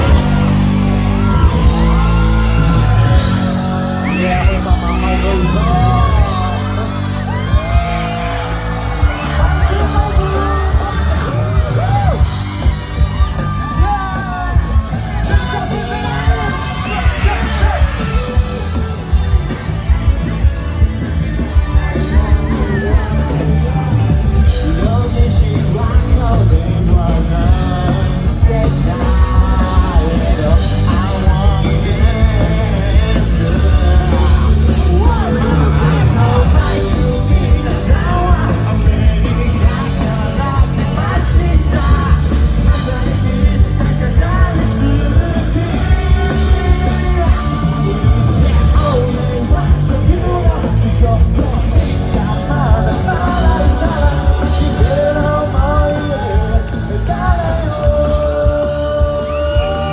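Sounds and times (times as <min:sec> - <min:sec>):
live rock band: 0:00.0 - 0:59.9
person singing: 0:00.0 - 0:59.9.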